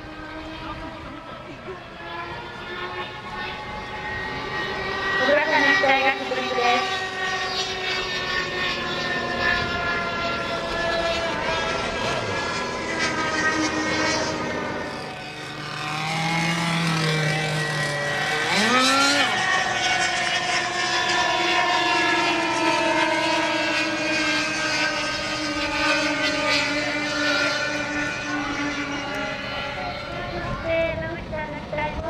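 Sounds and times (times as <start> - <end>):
model jet engines whining: 0.0 - 32.0.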